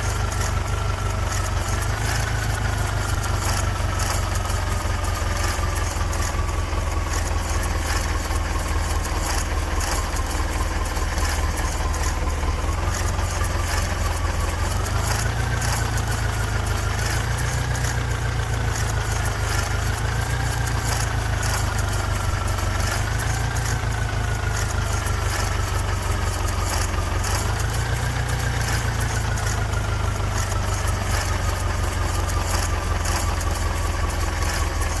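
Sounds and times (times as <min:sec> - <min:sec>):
faint engine whine: 0:00.0 - 0:35.0
heavy diesel engine revving: 0:00.0 - 0:35.0.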